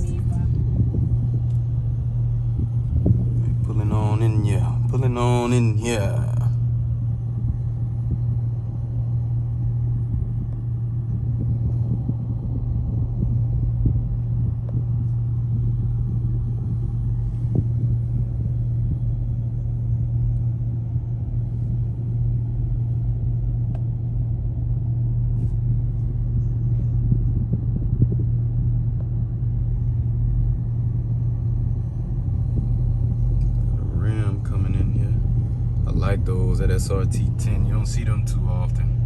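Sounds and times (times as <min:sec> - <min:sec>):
car engines idling: 0:00.0 - 0:39.0.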